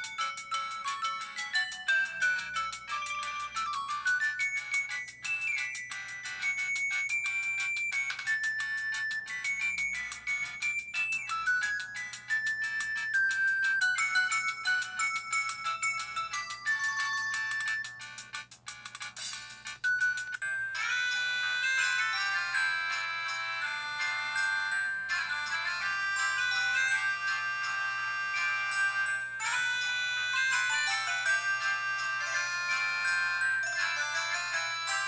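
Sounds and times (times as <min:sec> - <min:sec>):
mobile phone ringtone: 0:00.0 - 0:35.0.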